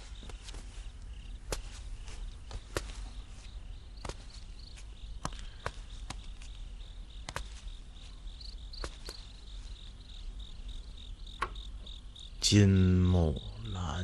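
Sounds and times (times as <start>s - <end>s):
crickets chirping: 0.0s - 14.0s
low background hum: 0.0s - 14.0s.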